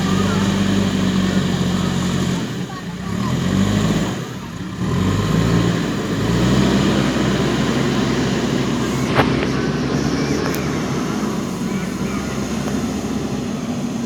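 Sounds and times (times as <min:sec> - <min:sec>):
diesel engine under load: 0:00.0 - 0:14.0.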